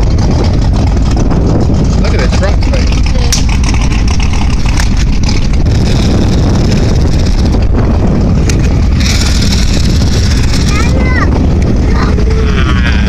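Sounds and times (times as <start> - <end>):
car engines rumbling: 0.0 - 13.0
wind on microphone: 0.0 - 13.0.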